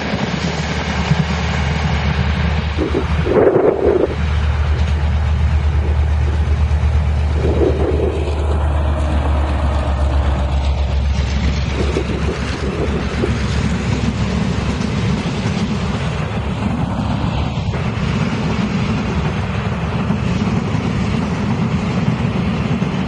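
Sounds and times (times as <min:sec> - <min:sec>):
locomotive low drone: 0:00.0 - 0:23.0
rail and wheel noise: 0:00.0 - 0:23.0.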